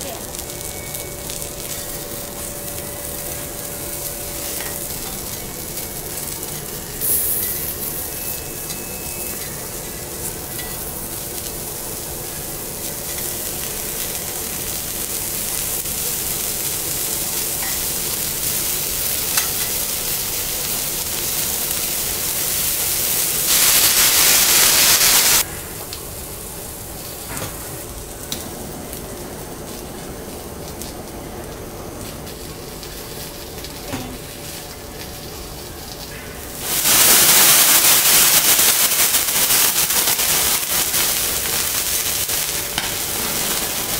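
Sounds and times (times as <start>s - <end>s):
loud hiss: 0.0s - 28.9s, 35.2s - 43.9s
food sizzling on a griddle: 0.0s - 43.9s.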